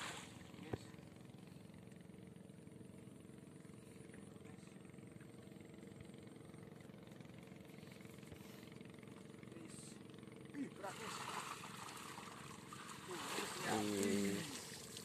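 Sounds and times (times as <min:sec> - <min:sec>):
faint distant engine hum: 0:00.0 - 0:15.0.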